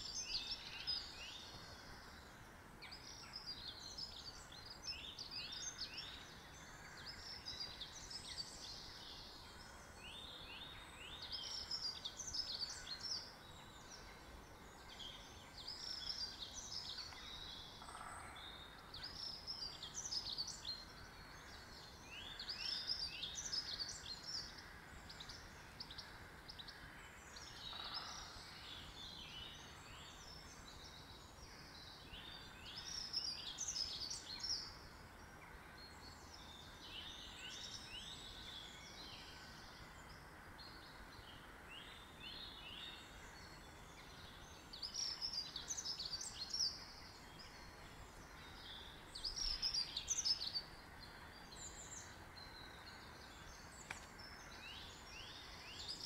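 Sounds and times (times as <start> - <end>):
faint outdoor hiss: 0.0 - 56.0
songbirds chirping and trilling: 0.0 - 56.0.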